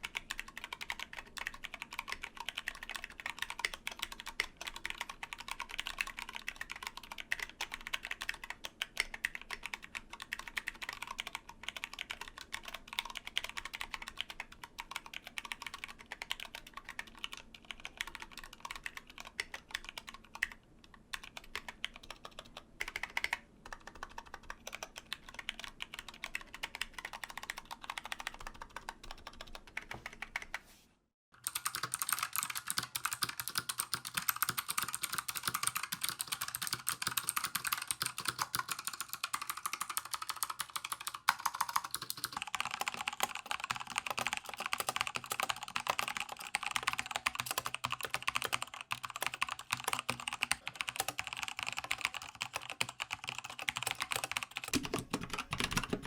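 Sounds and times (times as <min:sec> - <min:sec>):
mechanical keyboard typing: 0:00.0 - 0:30.6, 0:31.4 - 0:56.0.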